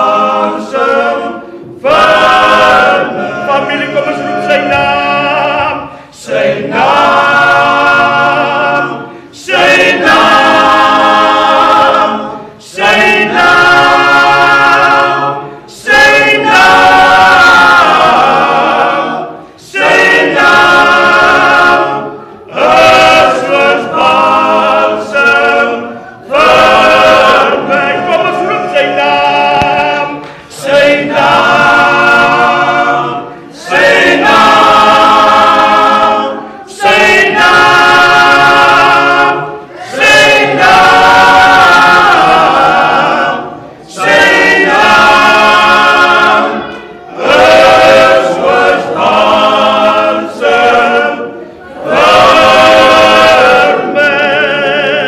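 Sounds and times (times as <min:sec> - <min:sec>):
male a cappella group singing: 0:00.0 - 0:55.0.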